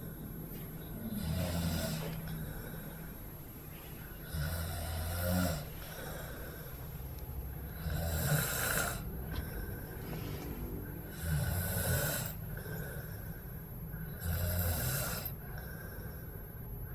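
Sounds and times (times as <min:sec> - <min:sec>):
quiet breathing: 0:00.0 - 0:16.9
man snoring: 0:00.8 - 0:03.0, 0:04.2 - 0:06.8, 0:07.6 - 0:16.3.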